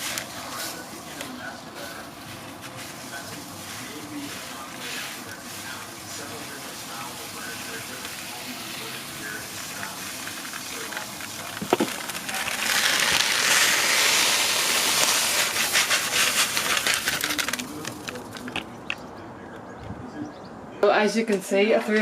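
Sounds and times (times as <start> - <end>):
dried lentils pouring from packet: 0.0 - 18.7.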